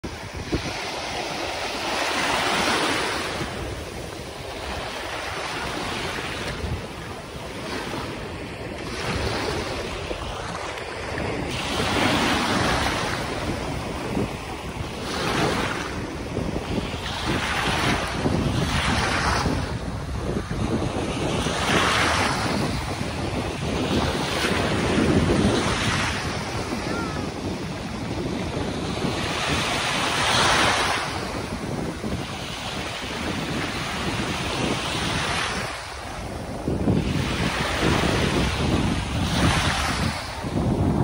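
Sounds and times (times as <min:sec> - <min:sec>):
small waves washing onto beach: 0:00.0 - 0:41.0
wind buffeting microphone: 0:00.0 - 0:41.0.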